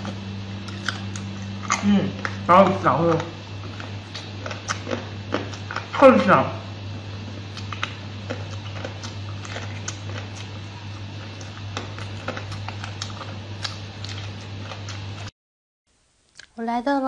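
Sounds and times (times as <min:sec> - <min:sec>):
person chewing wetly: 0:00.0 - 0:06.0, 0:07.0 - 0:15.3
steady low hum: 0:00.0 - 0:15.3.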